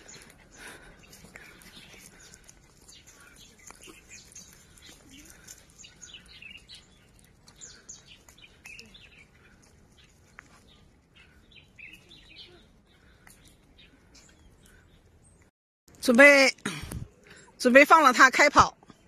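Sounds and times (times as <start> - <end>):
small birds chirping: 0.0 - 16.2.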